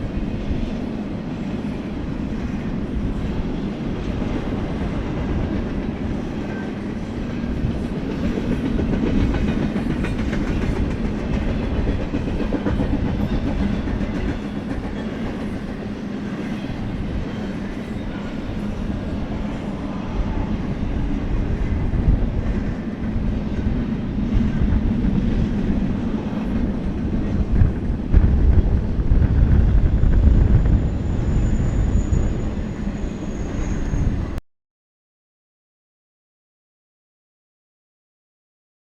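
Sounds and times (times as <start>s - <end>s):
freight train rumbling past: 0.0s - 34.4s.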